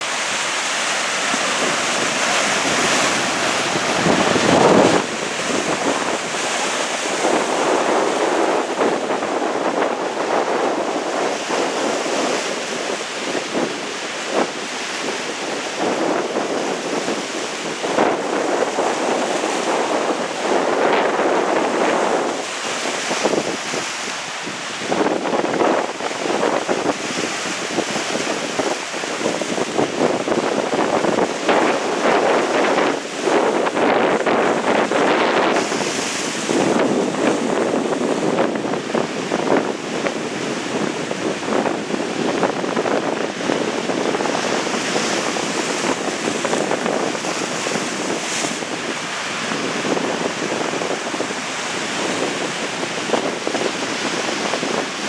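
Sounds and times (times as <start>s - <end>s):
gusty wind buffeting microphone: 0.0s - 55.0s.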